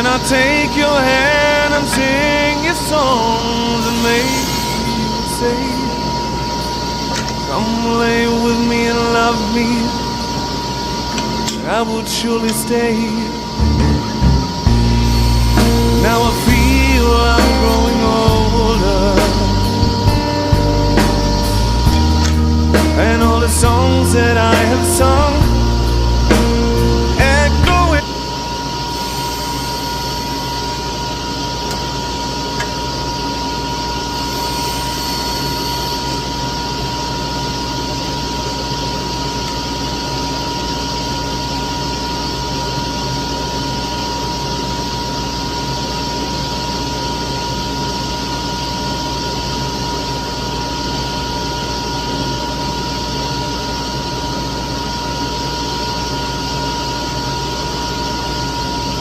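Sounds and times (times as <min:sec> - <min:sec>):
machine whirring: 0:00.0 - 0:59.0
steady high-pitched tone: 0:00.0 - 0:59.0.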